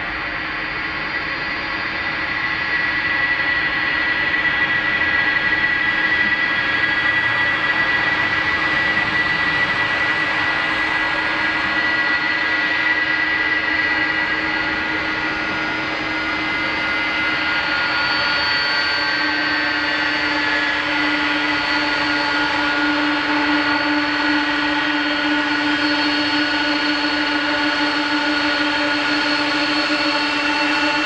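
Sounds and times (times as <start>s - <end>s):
jet engine roar: 0.0s - 31.0s
jet engines whining: 0.0s - 31.0s.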